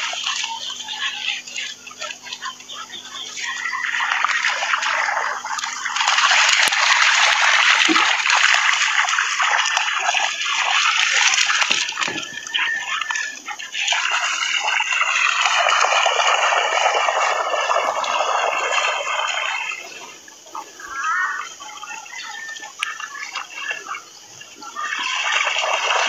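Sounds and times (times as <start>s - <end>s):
dogs splashing through water: 0.0s - 26.0s.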